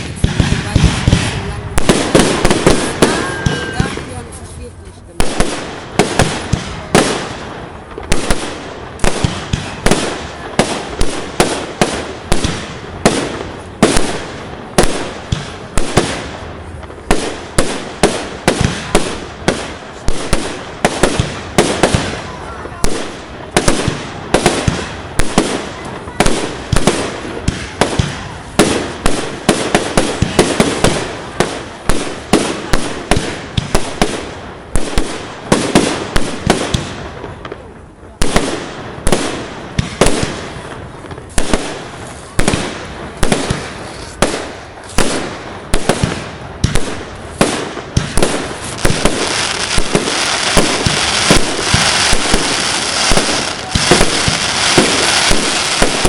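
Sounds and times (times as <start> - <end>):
fireworks exploding: 0.0 - 56.0
high crackling hiss: 0.0 - 56.0.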